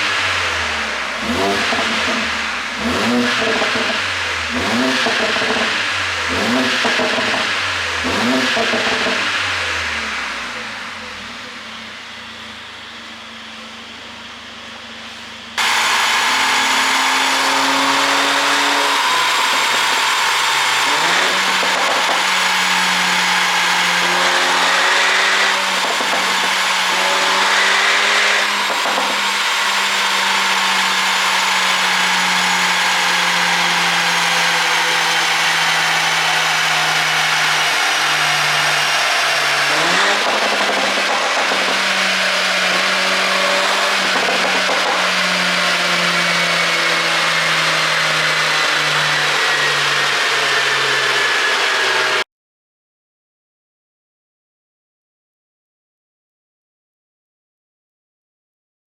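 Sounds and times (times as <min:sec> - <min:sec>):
engine rev blips: 0:00.0 - 0:13.8, 0:15.5 - 0:52.2
car engine and exhaust crackling: 0:00.0 - 0:51.6.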